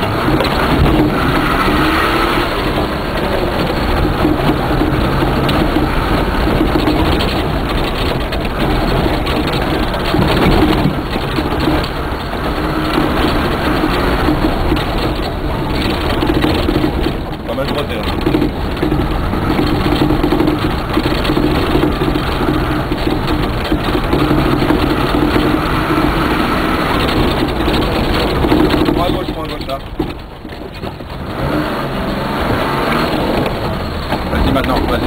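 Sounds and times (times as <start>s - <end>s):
car engine under load: 0.0s - 35.0s
knocks and rattles: 0.0s - 35.0s.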